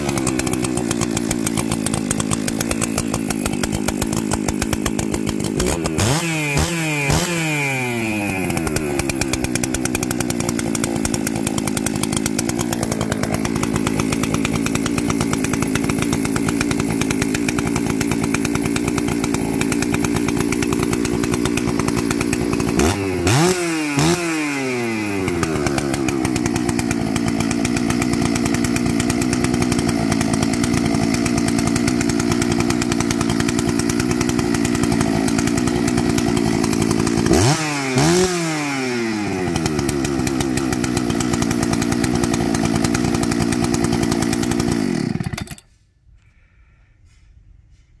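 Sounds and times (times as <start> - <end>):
chainsaw idling and revving: 0.0 - 46.8.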